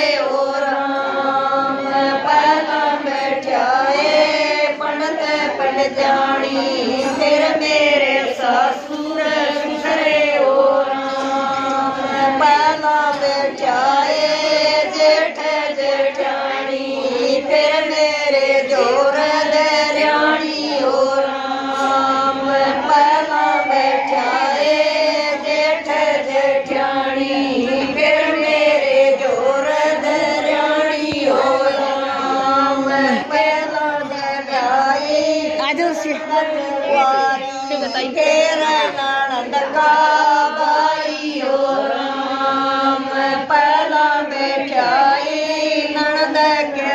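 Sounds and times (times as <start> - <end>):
women singing devotional song: 0.0 - 46.9.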